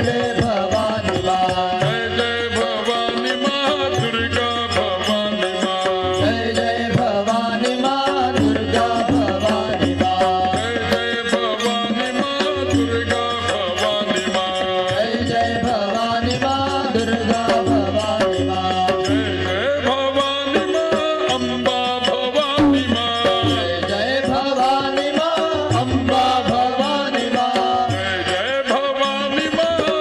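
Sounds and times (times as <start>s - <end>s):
hand drum percussion: 0.0s - 30.0s.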